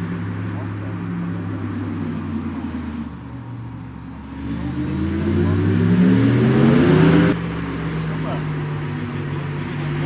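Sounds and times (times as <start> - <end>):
synthesized electric car sound: 0.0 - 10.0.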